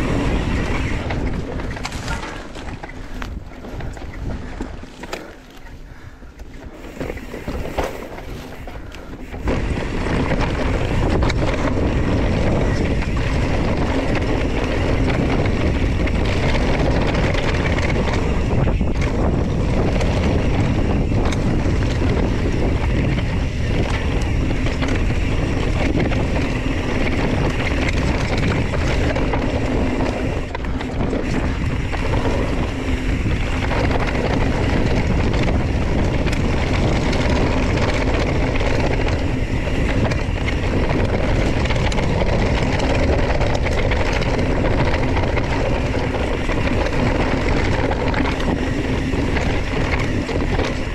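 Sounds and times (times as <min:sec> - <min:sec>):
bike rattle and tyre noise: 0:00.0 - 0:50.9
wind on microphone: 0:00.0 - 0:50.9.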